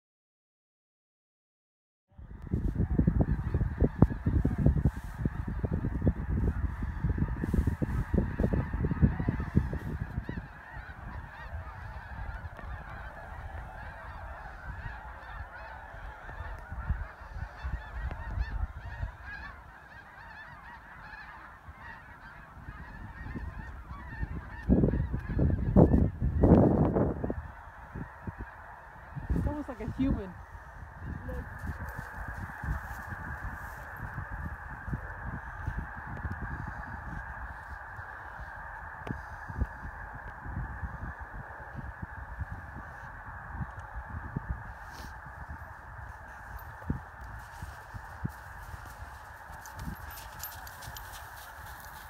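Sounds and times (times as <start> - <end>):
wind rumble on microphone: 2.1 - 52.0
geese honking: 2.3 - 52.0.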